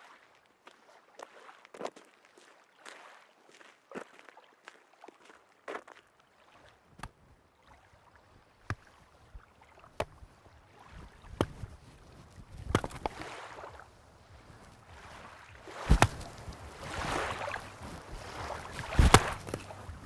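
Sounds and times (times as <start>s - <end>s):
sea water washing on beach: 0.0s - 6.9s, 7.5s - 20.0s.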